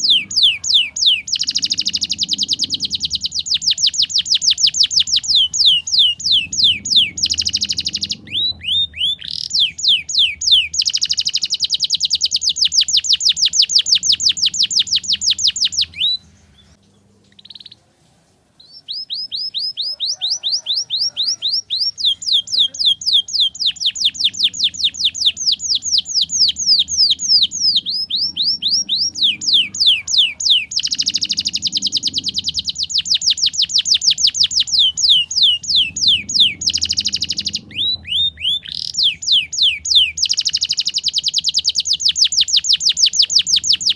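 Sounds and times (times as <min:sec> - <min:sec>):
canary singing trills: 0:00.0 - 0:18.0, 0:18.6 - 0:43.9.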